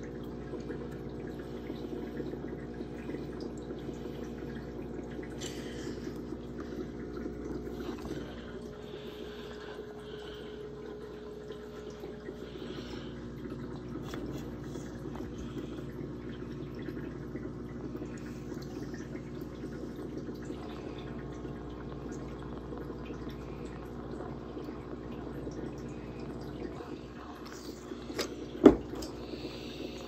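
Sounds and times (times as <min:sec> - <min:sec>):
aquarium air pump humming: 0:00.0 - 0:30.0
water bubbling: 0:00.0 - 0:30.0.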